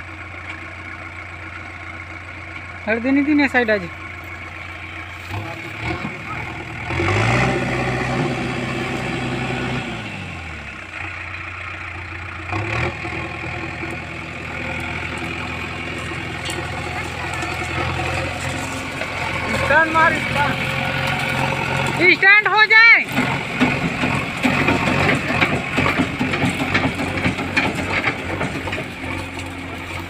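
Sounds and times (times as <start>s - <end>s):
diesel engine revving: 0.0s - 30.0s.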